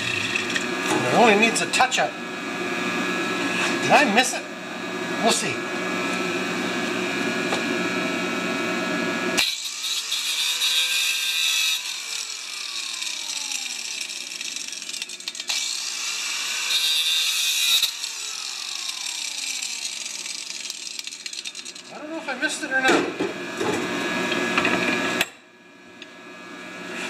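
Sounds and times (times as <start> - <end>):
angle grinder running: 0.0 - 25.3.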